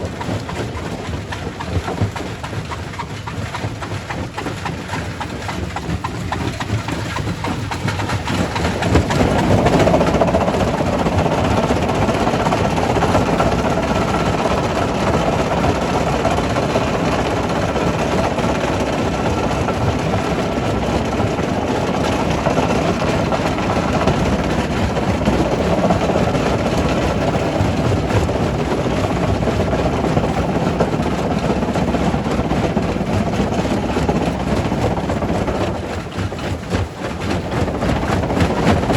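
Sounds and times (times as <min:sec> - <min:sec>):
rock crusher running: 0:00.0 - 0:38.9.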